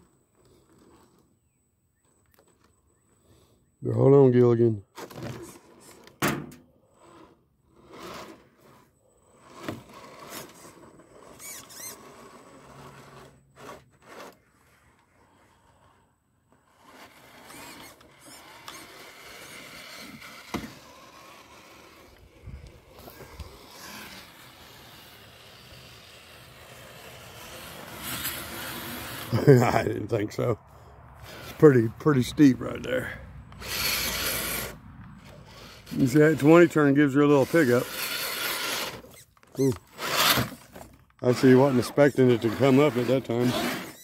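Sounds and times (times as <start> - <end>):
small electric motor whining: 0.0 - 1.4, 6.8 - 29.6, 31.2 - 44.0.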